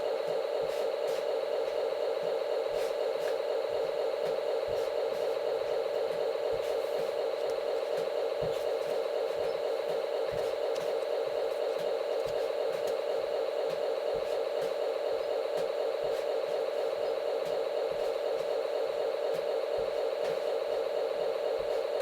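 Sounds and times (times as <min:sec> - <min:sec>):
model diesel locomotive engine sound: 0:00.0 - 0:22.0.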